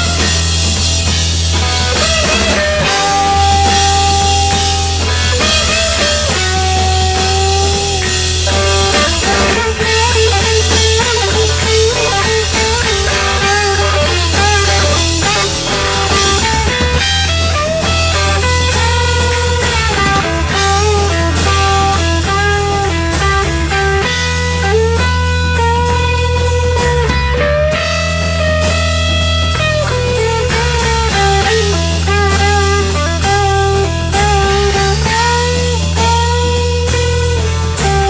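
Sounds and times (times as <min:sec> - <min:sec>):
bass notes: 0:00.0 - 0:38.0
drum kit: 0:00.0 - 0:38.0
electric guitar melody: 0:00.0 - 0:38.0.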